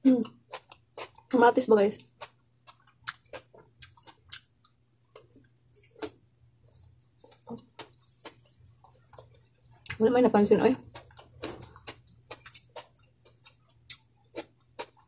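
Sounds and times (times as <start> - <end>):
chewing food: 0.2 - 10.0, 10.8 - 15.0.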